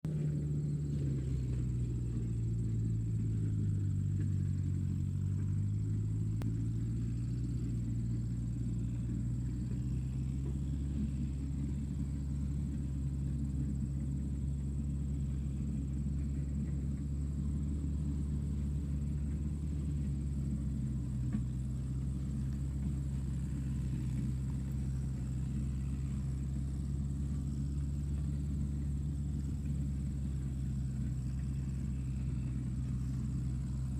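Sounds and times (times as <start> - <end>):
tractor engine droning: 0.0 - 33.9.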